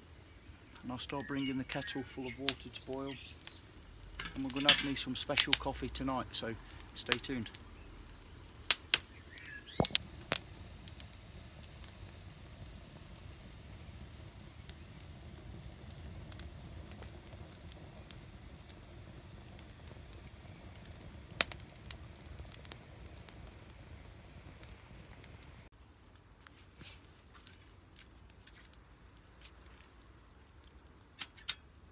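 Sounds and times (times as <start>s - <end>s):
wood fire rumbling: 0.0s - 25.7s
fire crackling pops: 0.0s - 26.3s, 30.1s - 31.9s.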